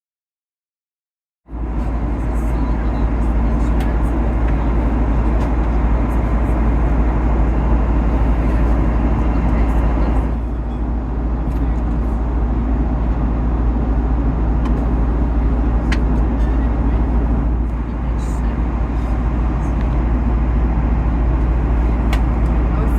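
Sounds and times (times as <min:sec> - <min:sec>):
airliner cabin rumble: 0:01.5 - 0:22.9.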